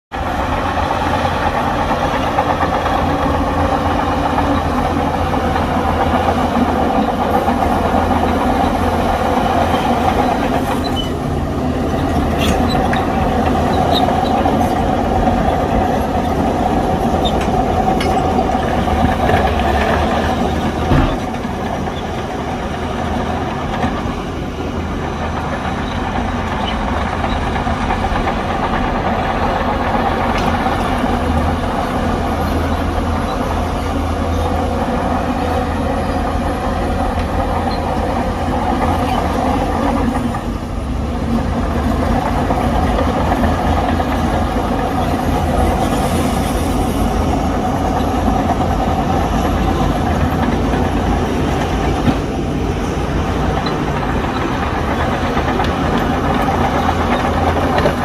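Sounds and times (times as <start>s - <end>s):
diesel earthmoving machinery running: 0.1s - 58.0s.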